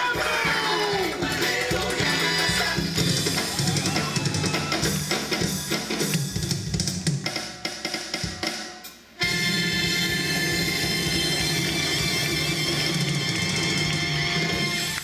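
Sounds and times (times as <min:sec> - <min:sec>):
drum-led music over loudspeakers: 0:00.0 - 0:15.0.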